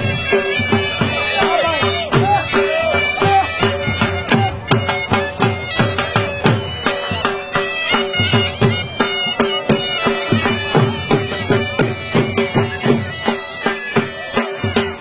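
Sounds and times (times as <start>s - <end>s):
double-reed pipe melody: 0.0s - 15.0s
drum beating dance rhythm: 0.0s - 15.0s.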